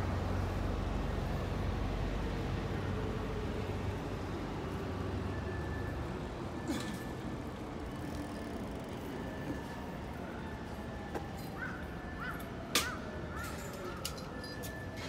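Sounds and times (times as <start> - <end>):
passing vehicles rumble: 0.0 - 15.0.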